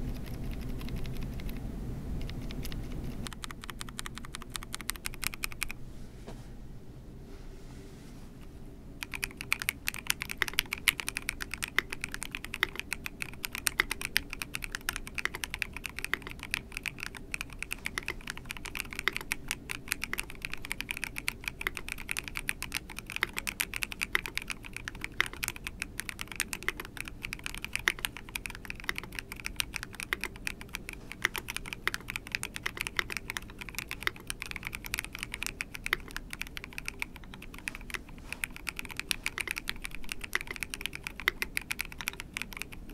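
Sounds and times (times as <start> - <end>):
fast mechanical keyboard typing: 0.0 - 1.6, 2.2 - 5.8, 9.0 - 42.9.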